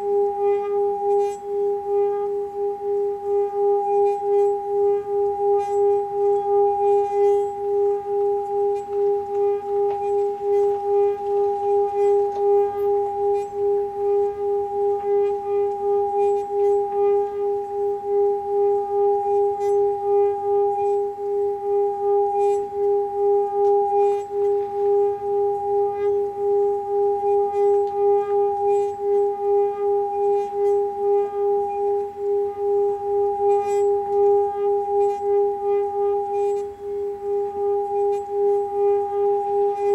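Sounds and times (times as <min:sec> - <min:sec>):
singing bowl ringing tone: 0:00.0 - 0:39.9.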